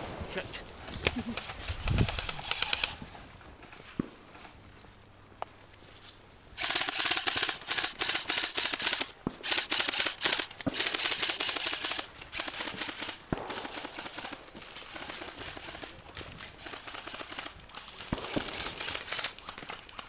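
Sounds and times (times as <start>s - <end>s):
airsoft guns firing bursts: 0.0s - 3.1s, 6.6s - 20.0s.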